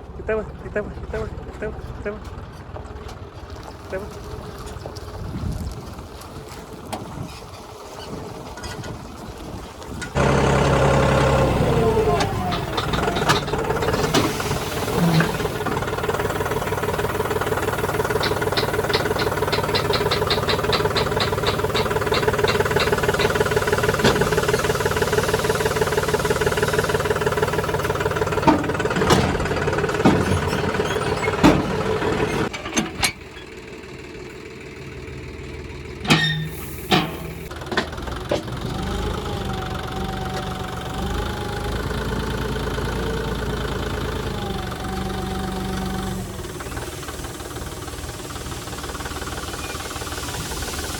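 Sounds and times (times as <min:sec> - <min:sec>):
engine running: 0:00.0 - 0:50.9.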